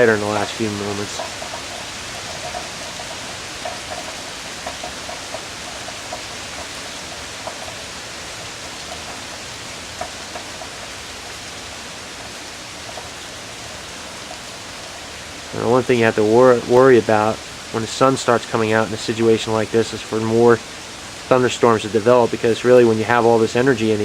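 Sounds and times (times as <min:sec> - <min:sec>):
drops ticking on hard surface: 0:00.0 - 0:23.9
rain hissing: 0:00.0 - 0:24.0.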